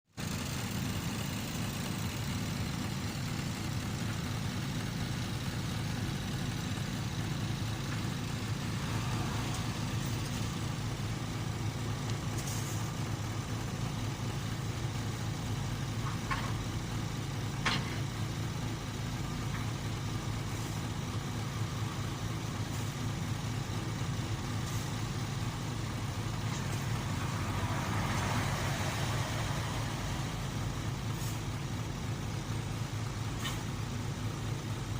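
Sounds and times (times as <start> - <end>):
construction machinery engine drone: 0.1 - 34.9.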